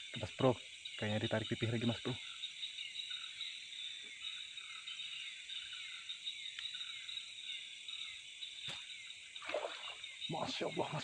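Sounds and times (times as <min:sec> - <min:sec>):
insects high-pitched drone: 0:00.0 - 0:11.0.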